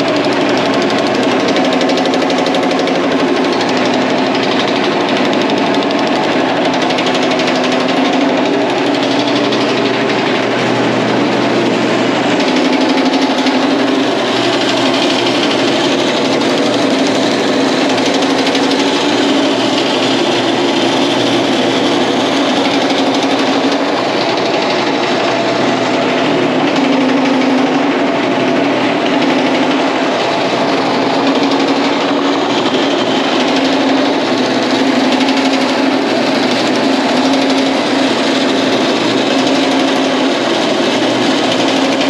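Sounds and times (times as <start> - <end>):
dies striking sheet metal: 0.0 - 42.0
power hammer running: 0.0 - 42.0.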